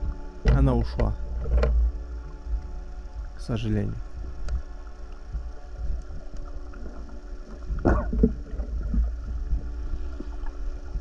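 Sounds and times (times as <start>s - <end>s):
underwater rumble: 0.0s - 11.0s
water swish: 2.0s - 11.0s.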